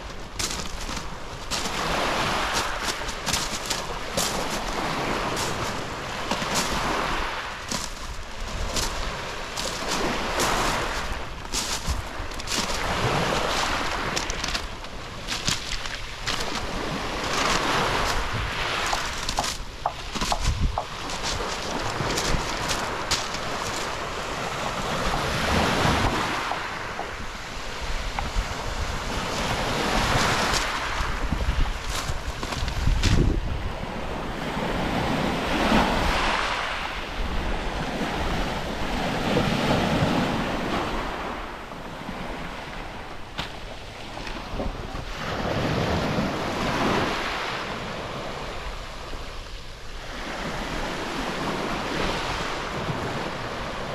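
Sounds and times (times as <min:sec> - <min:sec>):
waves washing onto pebble beach: 0:00.0 - 0:53.9
wind rumble on microphone: 0:00.0 - 0:53.9.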